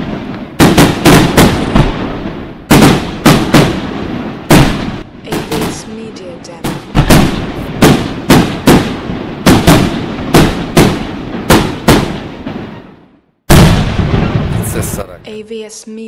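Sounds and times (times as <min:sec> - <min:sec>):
fireworks bangs: 0:00.0 - 0:15.7.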